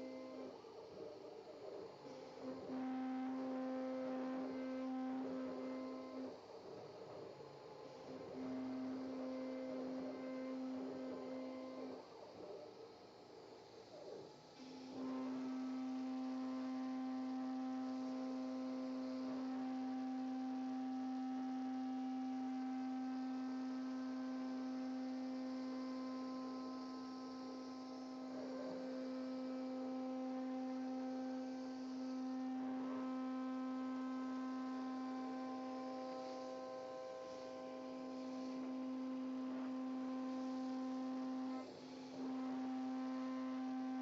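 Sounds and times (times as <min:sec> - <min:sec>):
cnc router humming: 0:00.0 - 0:44.0.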